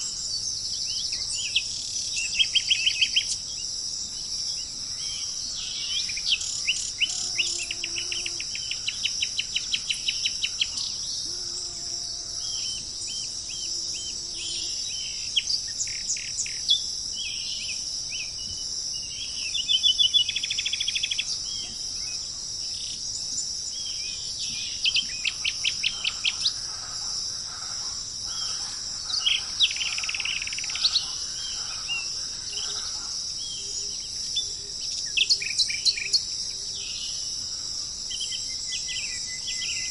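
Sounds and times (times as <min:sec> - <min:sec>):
insects chorus: 0:00.0 - 0:39.9
songbirds chirping and trilling: 0:00.0 - 0:39.9.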